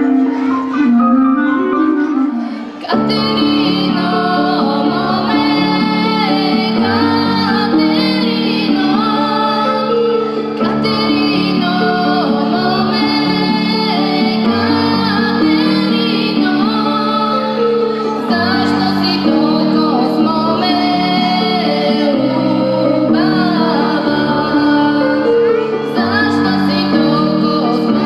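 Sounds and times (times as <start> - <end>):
girl singing: 1.6 - 28.0.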